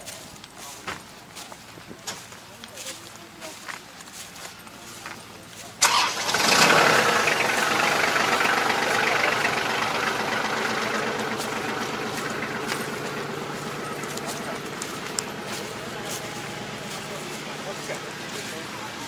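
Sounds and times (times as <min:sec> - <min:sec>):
tractor engine starting and running: 0:00.0 - 0:19.0.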